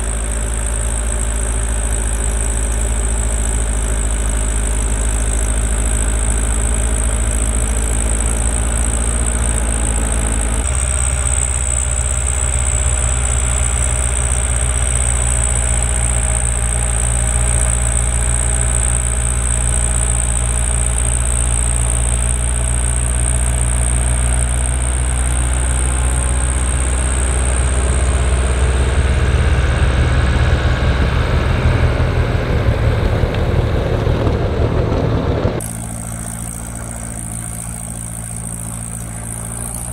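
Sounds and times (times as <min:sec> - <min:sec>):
snowblower high whine: 0:00.0 - 0:39.9
tractor diesel engine running: 0:00.0 - 0:39.9.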